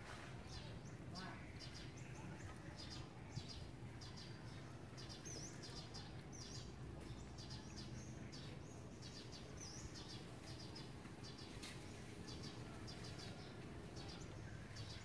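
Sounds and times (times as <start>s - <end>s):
faint low outdoor hum: 0.0s - 15.0s
small birds chirping: 0.0s - 15.0s.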